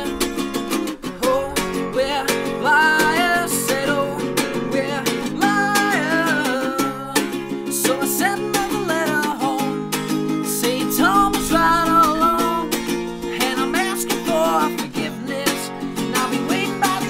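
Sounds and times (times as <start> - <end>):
man singing: 0.0 - 17.0
strummed acoustic guitar: 0.0 - 17.0.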